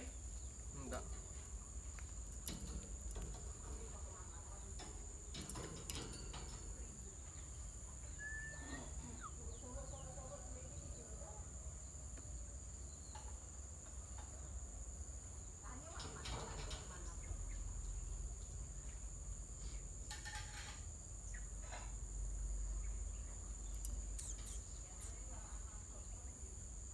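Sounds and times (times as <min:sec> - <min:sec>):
bird chirp: 0:00.0 - 0:13.6, 0:15.3 - 0:19.9, 0:21.2 - 0:26.6.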